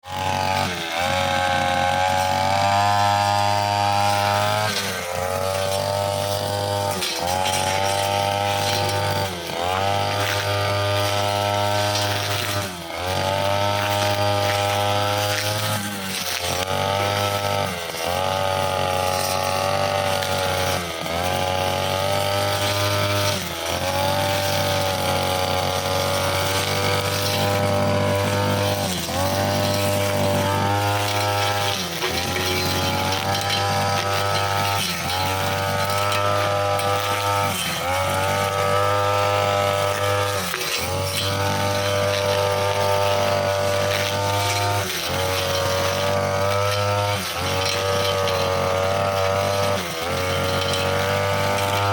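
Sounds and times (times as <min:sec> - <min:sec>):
brushcutter engine at high revs: 0:00.0 - 0:51.9
metal blade cutting grass: 0:00.0 - 0:51.9.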